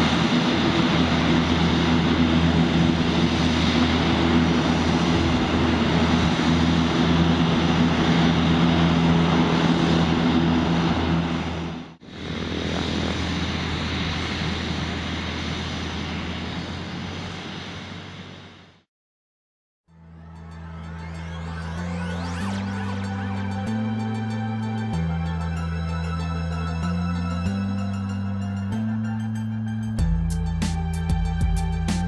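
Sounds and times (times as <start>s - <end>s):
propeller drone: 0.0s - 18.9s, 19.9s - 32.0s.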